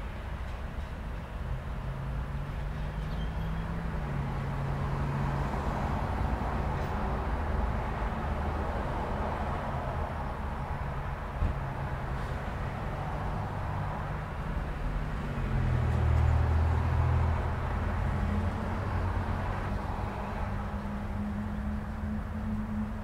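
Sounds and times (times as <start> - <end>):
road traffic engine rumble: 0.0 - 23.0.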